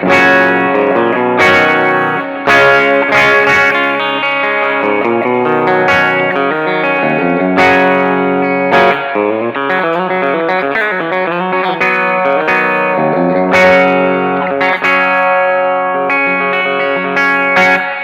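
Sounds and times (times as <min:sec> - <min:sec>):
electric guitar picked notes: 0:00.0 - 0:18.0
electric guitar strummed chords: 0:00.0 - 0:18.0.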